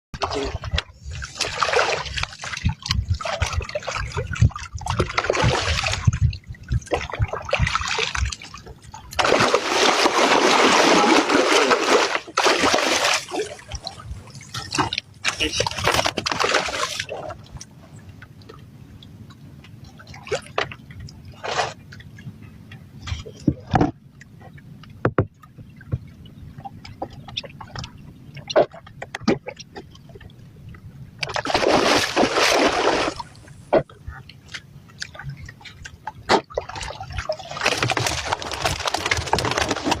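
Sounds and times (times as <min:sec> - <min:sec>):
water sloshing and splashing: 0:00.2 - 0:40.0.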